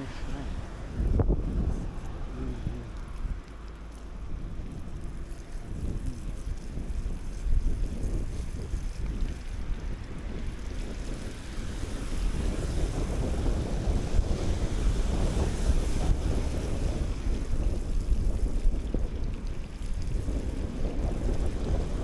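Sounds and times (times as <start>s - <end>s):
tyre noise on wet road: 0.0s - 22.0s
wind rumbling on microphone: 0.0s - 22.0s.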